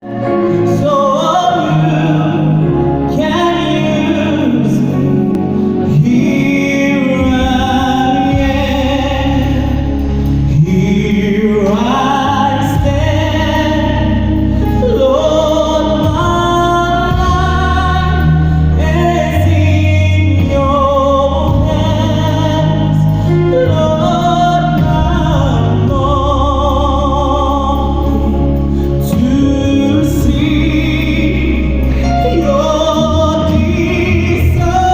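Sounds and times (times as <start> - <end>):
gospel singers: 0.0 - 34.9
instrumental backing: 0.0 - 34.9.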